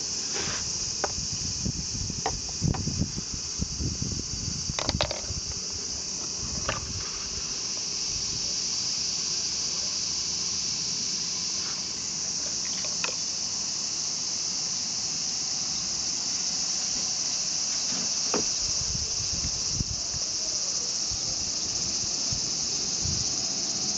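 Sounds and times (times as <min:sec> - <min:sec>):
high-pitched insect drone: 0:00.0 - 0:23.9.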